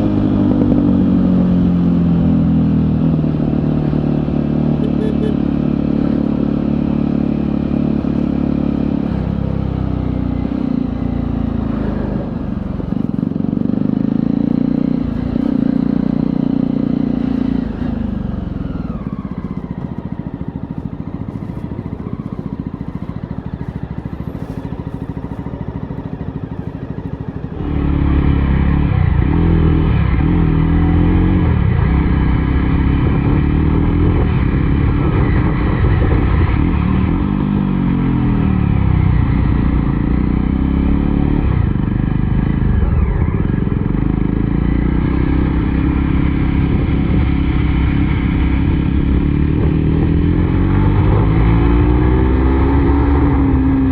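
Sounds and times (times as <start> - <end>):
motorcycle engine and exhaust: 0.0 - 53.9.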